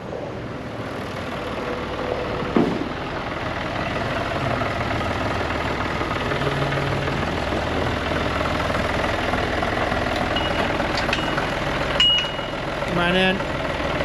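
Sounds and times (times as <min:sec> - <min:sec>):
heavy diesel engine idling: 0:00.0 - 0:14.0.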